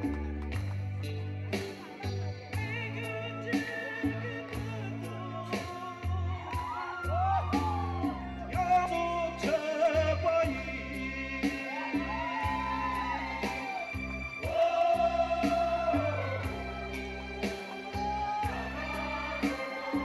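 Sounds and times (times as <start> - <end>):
low musical accompaniment: 0.0 - 20.0.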